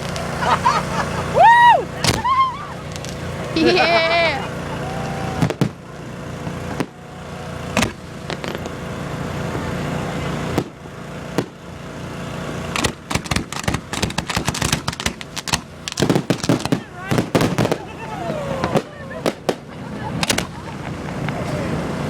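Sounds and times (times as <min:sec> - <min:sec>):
fireworks bangs and crackling: 0:00.0 - 0:03.6, 0:04.4 - 0:22.0
steady low hum: 0:00.0 - 0:22.0.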